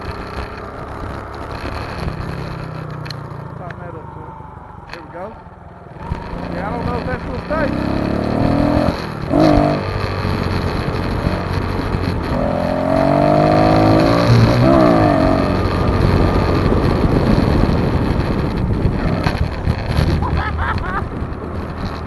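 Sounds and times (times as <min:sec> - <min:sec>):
pit bike engine revving: 0:00.0 - 0:22.0
wind buffeting microphone: 0:03.8 - 0:22.0.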